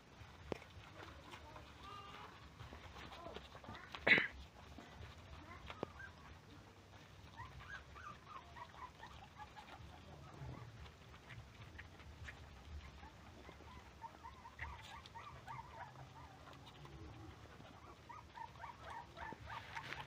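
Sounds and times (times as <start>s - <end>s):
puppies squeaking: 0.2s - 20.0s.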